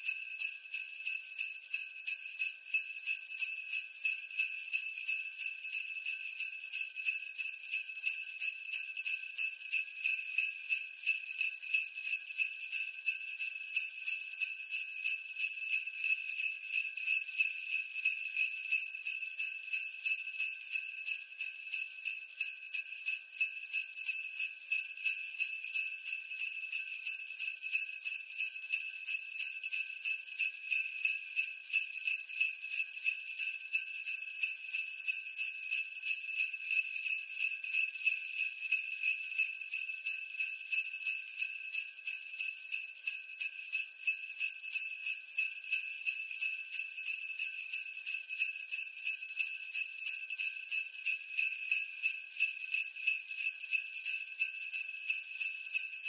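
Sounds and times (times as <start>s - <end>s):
jingle bells shaken: 0.0s - 56.0s.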